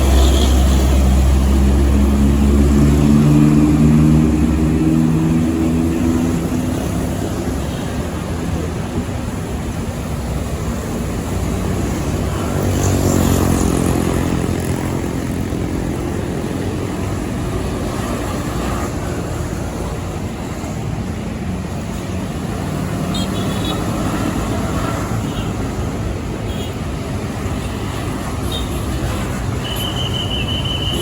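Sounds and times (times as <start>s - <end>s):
heavy trucks passing: 0.0s - 31.0s.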